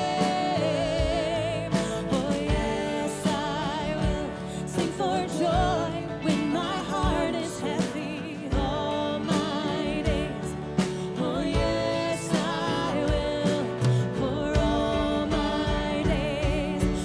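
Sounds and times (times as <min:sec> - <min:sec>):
live band playing slow song: 0:00.0 - 0:17.0
person singing: 0:00.0 - 0:17.0
steady drum beat: 0:00.0 - 0:17.0.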